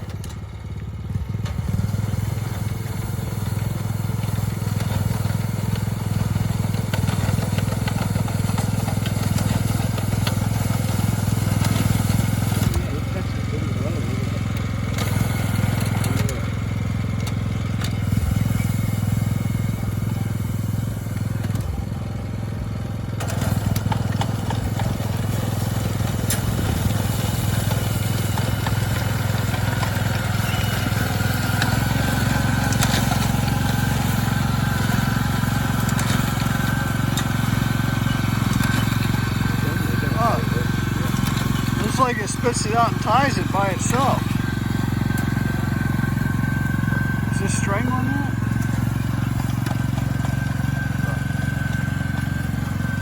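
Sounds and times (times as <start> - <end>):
small engine running steadily: 0.0 - 53.0.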